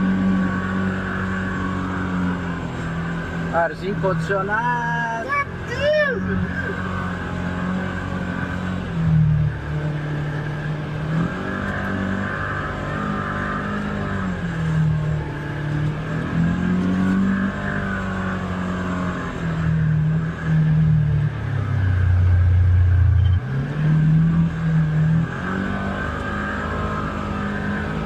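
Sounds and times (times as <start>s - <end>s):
utility vehicle engine revving: 0.0s - 28.0s.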